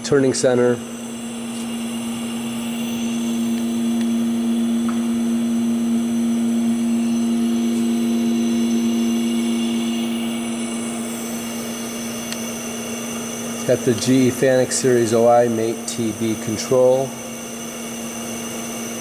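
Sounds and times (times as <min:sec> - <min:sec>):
faint high whine: 0:00.0 - 0:19.0
lathe electric hum: 0:00.0 - 0:19.0.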